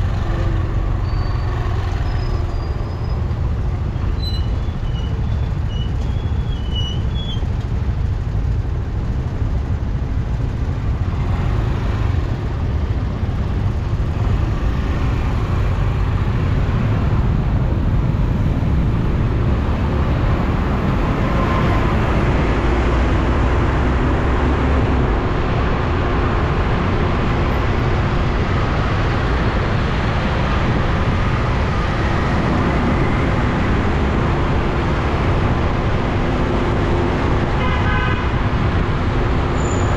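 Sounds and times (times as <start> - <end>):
road rumble: 0.0 - 39.9
scooter and car engines: 0.0 - 39.9.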